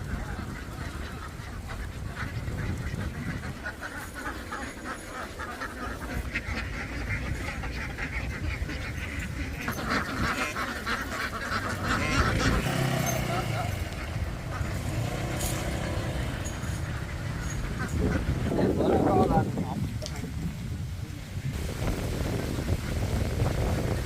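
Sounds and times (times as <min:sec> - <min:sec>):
ducks quacking: 0:00.0 - 0:20.5.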